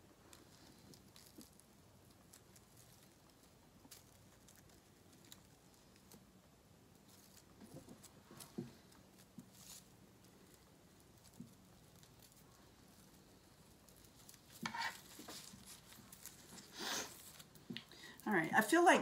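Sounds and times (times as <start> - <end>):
ribbon and flowers rustling: 0.0 - 19.0.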